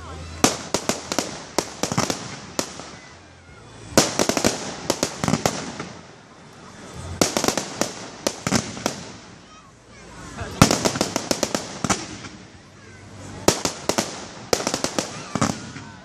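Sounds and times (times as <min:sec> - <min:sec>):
fireworks crackling pops: 0:00.0 - 0:16.0
fireworks hiss: 0:00.0 - 0:16.0.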